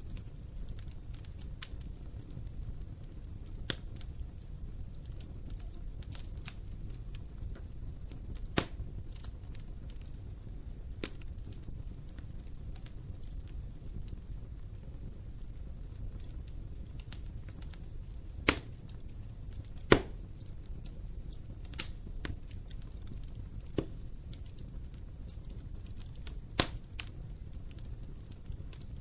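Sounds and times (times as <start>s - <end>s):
fire crackling: 0.0s - 29.0s
rumble of fire flames: 0.0s - 29.0s
sharp pops of fire: 0.0s - 29.0s.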